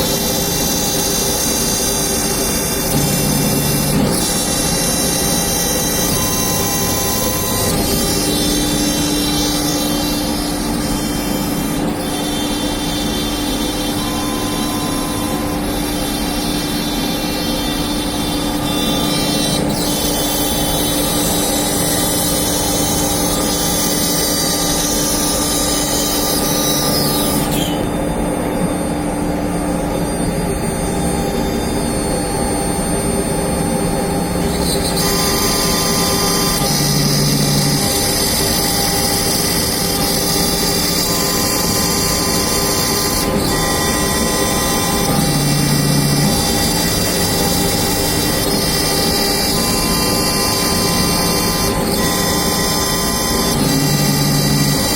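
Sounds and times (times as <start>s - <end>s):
router spindle whining: 0.0s - 54.9s.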